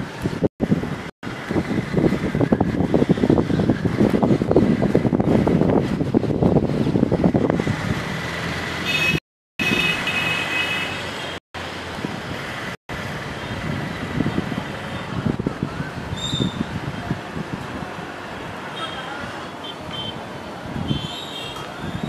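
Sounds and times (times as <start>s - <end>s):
passing vehicles: 0.0s - 22.0s.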